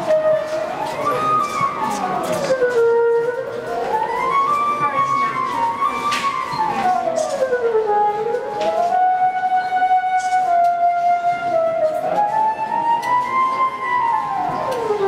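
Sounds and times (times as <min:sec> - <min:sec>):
theremin tone: 0:00.0 - 0:15.0.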